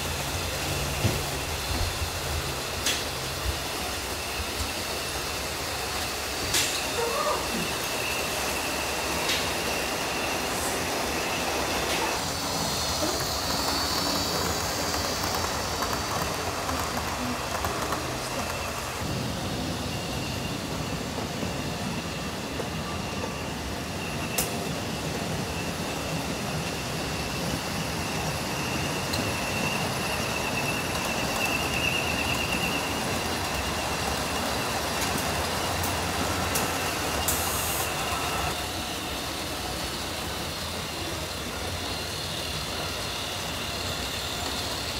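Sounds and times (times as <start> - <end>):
model train wheels rumbling: 0.0 - 44.9.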